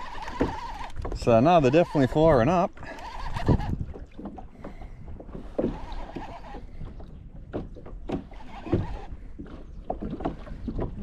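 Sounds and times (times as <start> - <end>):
knocks and thumps against kayak: 0.0 - 11.0.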